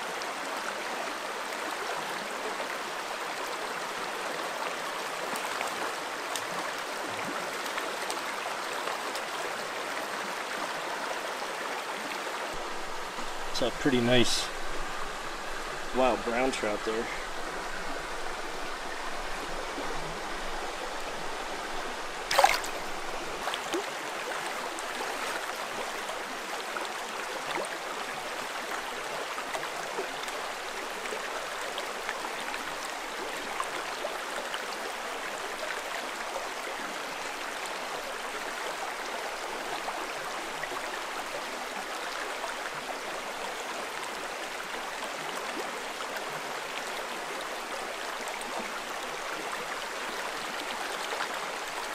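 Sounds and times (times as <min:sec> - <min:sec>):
stream rushing over stones: 0:00.0 - 0:51.9.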